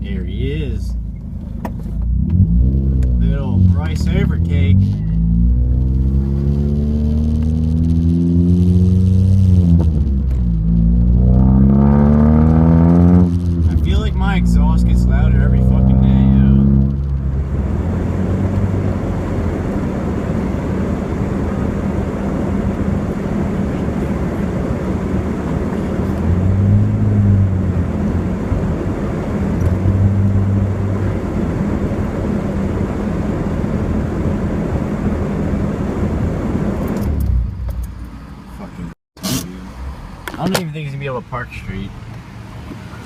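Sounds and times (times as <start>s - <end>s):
car engine and loud exhaust: 0.0s - 43.0s
tyre and road noise: 0.0s - 43.0s.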